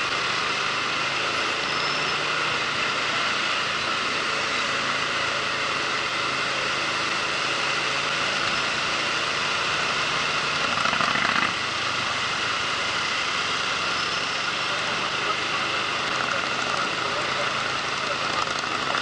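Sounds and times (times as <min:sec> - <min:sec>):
motorcycle engine hum: 0:00.0 - 0:19.0.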